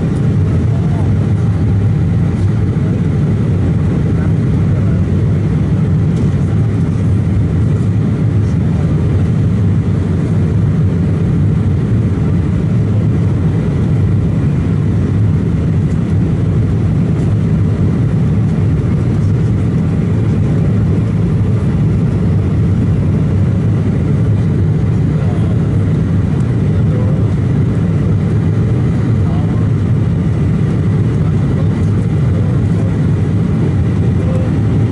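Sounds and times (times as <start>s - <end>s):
jet cabin roar: 0.0s - 34.9s.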